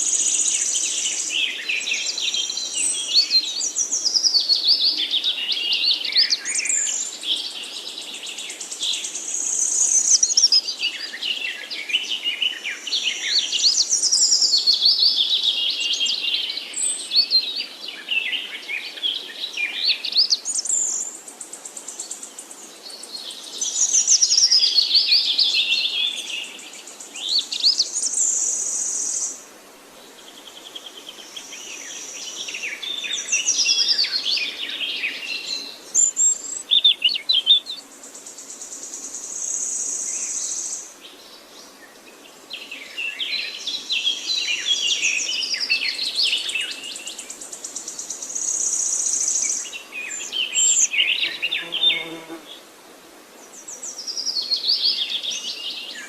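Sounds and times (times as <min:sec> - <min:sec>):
songbirds singing: 0:00.0 - 0:52.7, 0:53.3 - 0:56.0.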